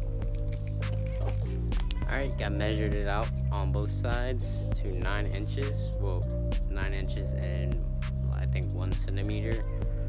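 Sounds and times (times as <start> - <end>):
instrumental beat music: 0.0 - 10.0.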